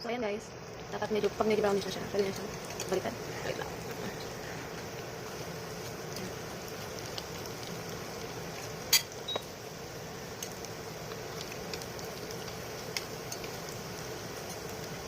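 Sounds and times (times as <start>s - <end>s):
food sizzling in hot oil: 0.1s - 15.0s.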